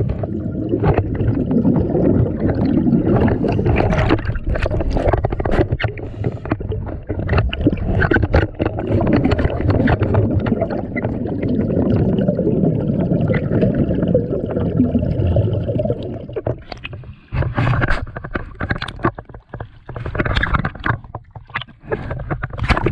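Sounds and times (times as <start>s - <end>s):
underwater clicks and knocks: 0.0s - 12.0s, 16.0s - 22.9s
gurgling regulator bubbles: 0.0s - 22.9s.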